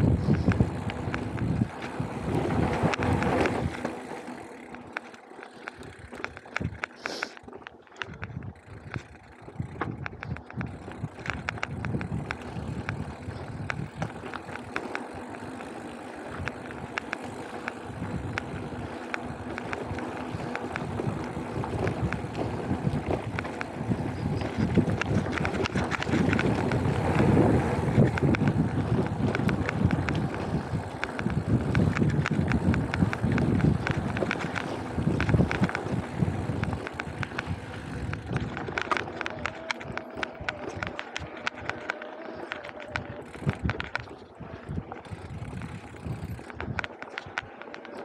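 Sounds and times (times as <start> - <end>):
wind on microphone: 0.0 - 3.9, 8.1 - 47.6
bike rattling and clicking: 0.0 - 48.0
bike tyres on loose dirt: 0.0 - 48.0.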